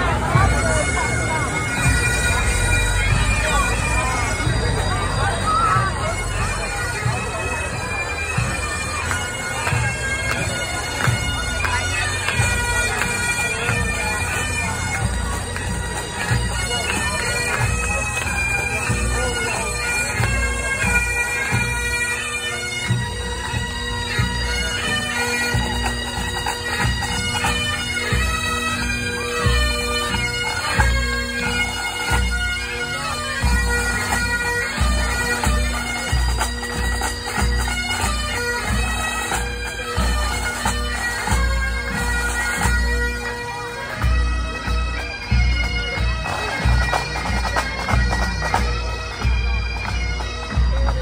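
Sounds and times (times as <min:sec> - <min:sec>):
drums keeping a beat: 0:00.0 - 0:21.8, 0:22.7 - 0:51.0
bagpipes playing a tune: 0:00.0 - 0:51.0.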